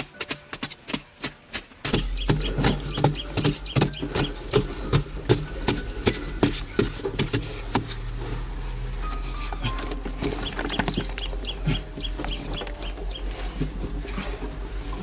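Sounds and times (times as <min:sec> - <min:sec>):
digging tools chopping earth: 0:00.0 - 0:08.3, 0:09.4 - 0:15.0
soil clods scattering: 0:00.0 - 0:15.0.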